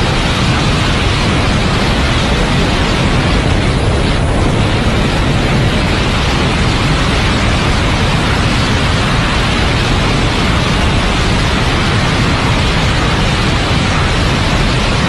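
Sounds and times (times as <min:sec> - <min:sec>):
aircraft in flight roaring: 0:00.0 - 0:15.0.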